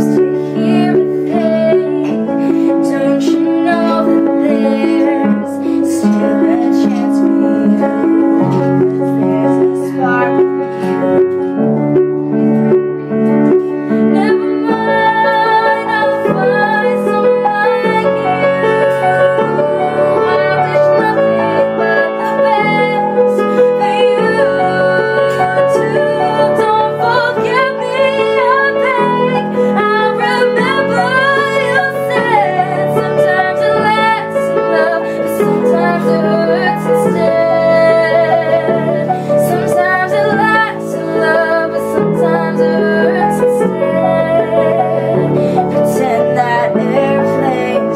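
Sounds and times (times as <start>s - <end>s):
woman singing: 0.0s - 11.0s, 13.6s - 47.9s
piano playing chords: 0.0s - 47.9s.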